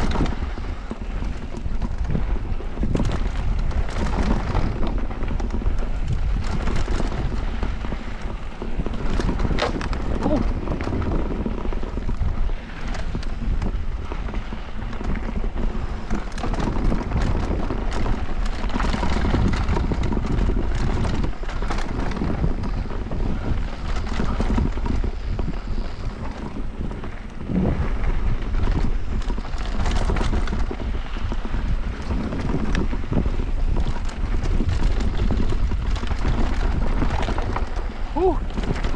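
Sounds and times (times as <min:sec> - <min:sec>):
bike rattling and knocking: 0:00.0 - 0:38.9
wind buffeting microphone: 0:00.0 - 0:38.9.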